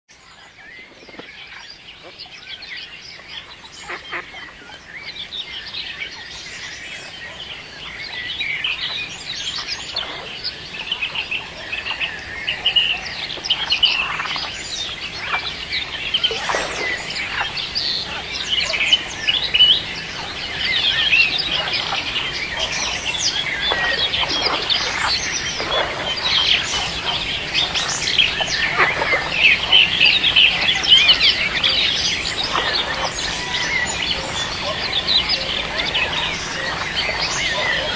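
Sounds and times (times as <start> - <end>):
birds chirping in chorus: 0.4 - 37.9.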